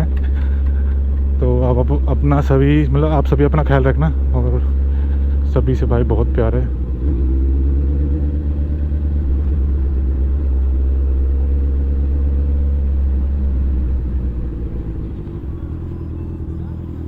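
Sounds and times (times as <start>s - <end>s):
heavy low rumble: 0.0s - 17.0s
motorcycle engine running: 0.0s - 17.0s.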